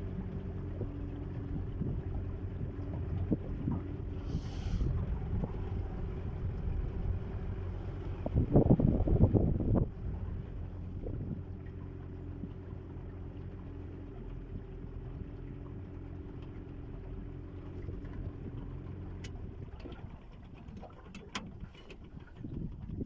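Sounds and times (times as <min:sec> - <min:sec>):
outboard motor running: 0:00.0 - 0:23.0.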